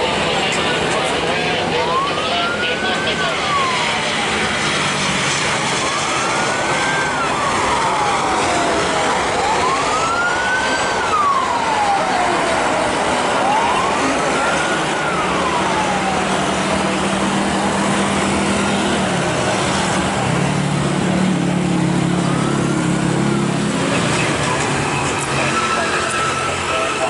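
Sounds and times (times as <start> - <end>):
steady rushing noise: 0.0 - 27.0
wailing siren: 0.0 - 27.0.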